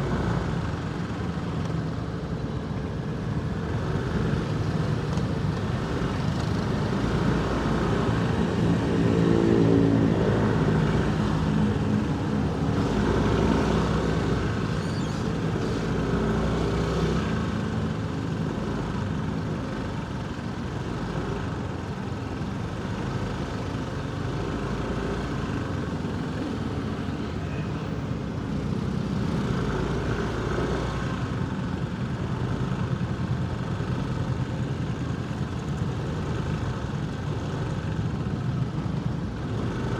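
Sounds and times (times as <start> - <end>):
surrounding vehicle engines: 0.0 - 39.9.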